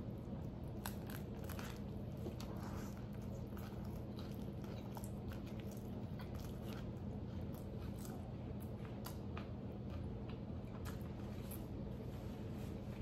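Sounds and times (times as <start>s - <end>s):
biting and chewing food: 0.0s - 12.0s
steady low hum: 0.0s - 13.0s.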